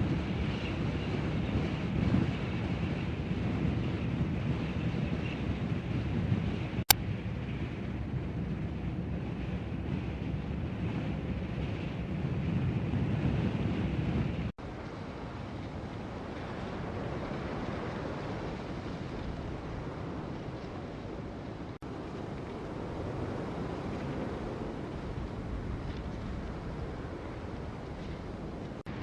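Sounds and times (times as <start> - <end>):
strong wind rushing: 0.0 - 29.0.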